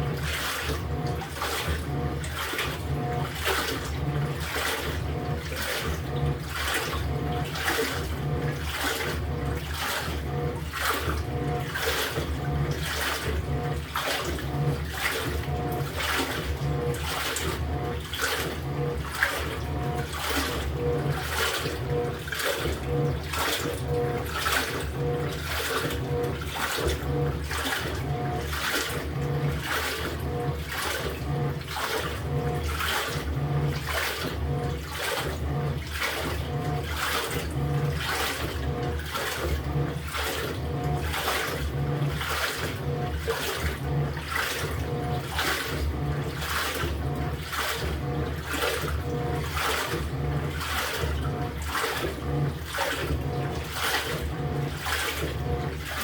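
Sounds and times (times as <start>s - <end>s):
low motor hum: 0.0s - 56.0s
washing machine swishing and sloshing: 0.0s - 56.0s.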